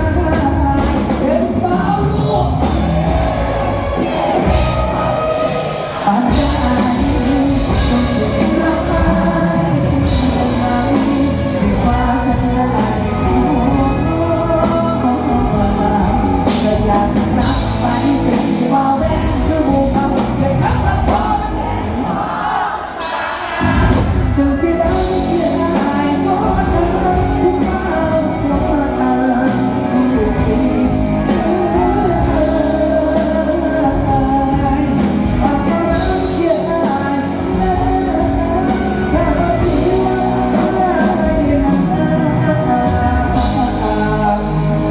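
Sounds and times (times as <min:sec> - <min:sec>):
steady drum beat: 0:00.0 - 0:44.8
live band music: 0:00.0 - 0:44.9
person singing: 0:00.0 - 0:44.9.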